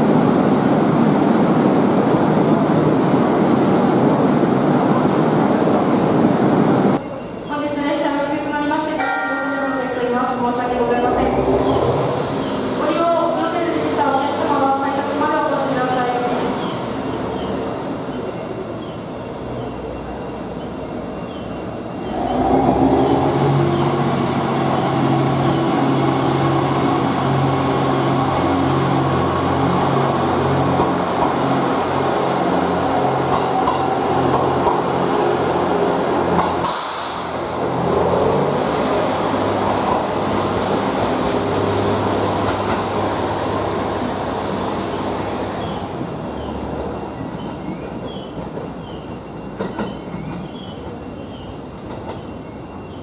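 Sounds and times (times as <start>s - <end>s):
diesel railcar engine: 0.0s - 53.0s.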